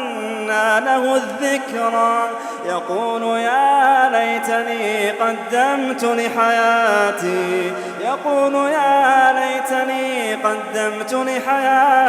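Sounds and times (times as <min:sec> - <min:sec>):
man chanting melodically: 0:00.0 - 0:12.0.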